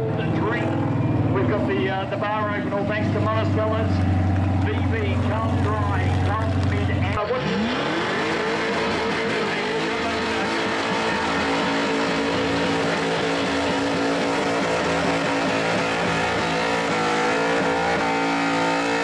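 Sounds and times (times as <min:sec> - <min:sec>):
car engine at high revs: 0:00.0 - 0:19.0
tyres spinning on asphalt: 0:00.0 - 0:19.0.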